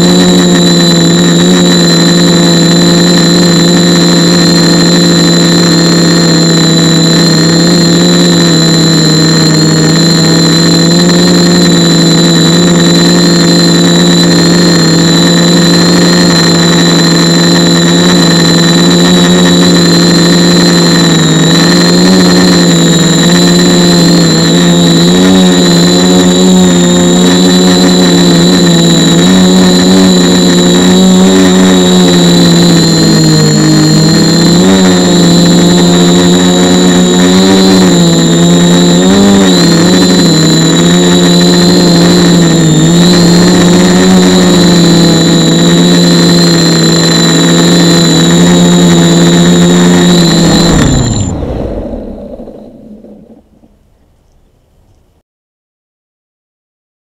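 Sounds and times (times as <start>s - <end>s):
drone propellers buzzing: 0.0s - 54.3s
thin high whine: 0.0s - 54.4s.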